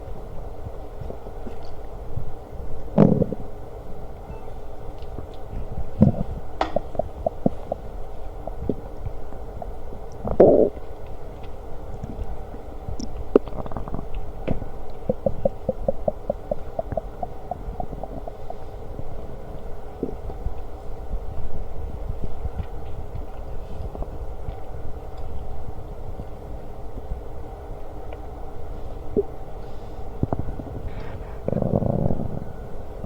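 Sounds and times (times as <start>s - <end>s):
stomach growling and gurgling: 0.1s - 33.0s.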